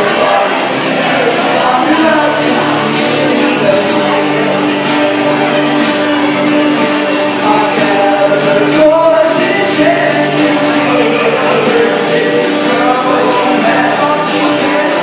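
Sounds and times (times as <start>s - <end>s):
acoustic guitars strumming: 0.0s - 15.0s
young men singing together: 0.0s - 15.0s.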